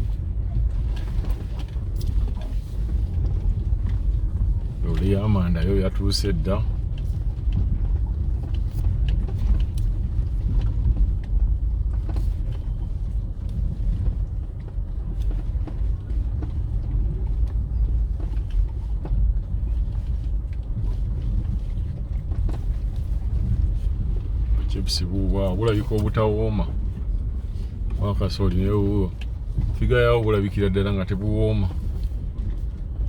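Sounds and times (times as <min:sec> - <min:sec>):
vehicle road rumble: 0:00.0 - 0:33.0.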